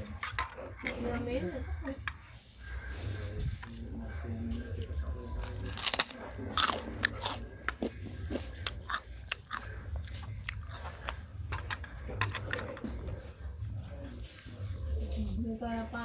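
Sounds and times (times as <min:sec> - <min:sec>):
noodles being chewed: 0:00.0 - 0:15.4
steady low hum: 0:00.0 - 0:16.0.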